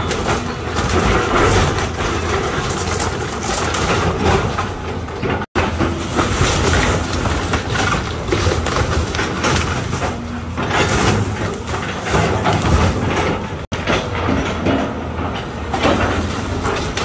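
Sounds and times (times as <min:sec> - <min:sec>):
excavator diesel engine: 0:00.0 - 0:17.0
wood and debris crunching: 0:00.0 - 0:17.0.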